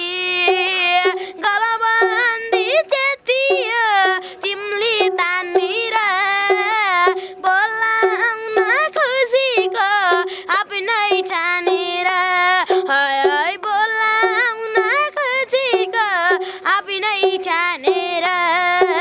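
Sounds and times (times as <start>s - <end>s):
boy singing: 0.0s - 19.0s.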